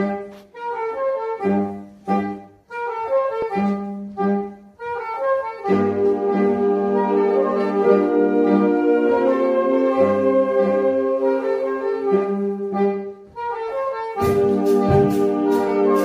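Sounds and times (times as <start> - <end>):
saxophone ensemble playing: 0.0 - 16.0.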